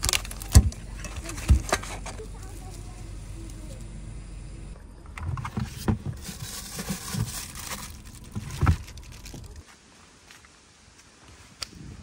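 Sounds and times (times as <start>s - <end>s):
rustling and crinkling: 0.0s - 3.8s, 5.0s - 11.6s.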